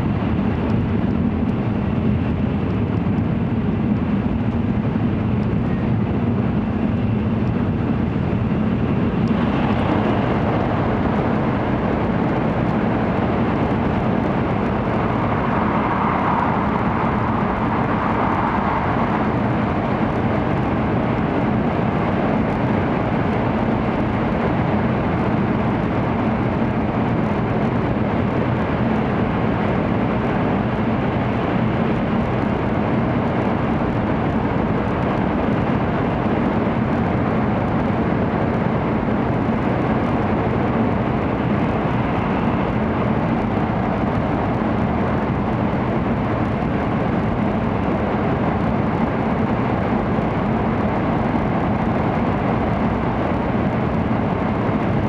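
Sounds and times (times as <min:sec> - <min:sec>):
train running noise in cabin: 0:00.0 - 0:55.0.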